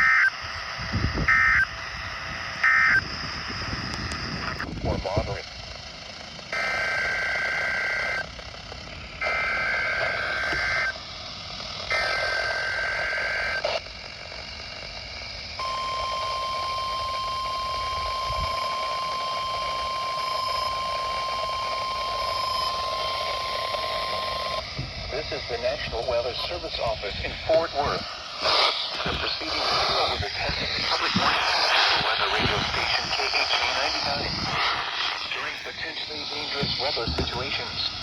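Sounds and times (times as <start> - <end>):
buzzy two-tone data warble: 0.0 - 5.6, 6.5 - 8.3, 9.0 - 11.1, 11.8 - 38.0
radio static: 0.0 - 38.0
steady warning alarm tone: 0.0 - 38.0.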